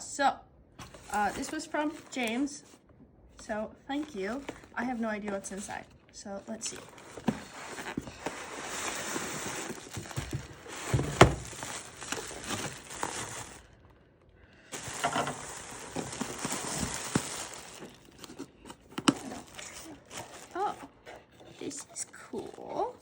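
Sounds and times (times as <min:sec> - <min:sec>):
packaging crinkling and rustling: 0:00.8 - 0:02.8, 0:03.4 - 0:14.1, 0:14.7 - 0:23.0.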